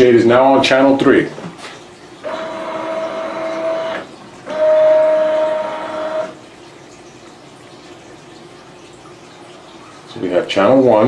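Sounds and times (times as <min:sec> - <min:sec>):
roller shade motor humming: 0:00.1 - 0:11.0.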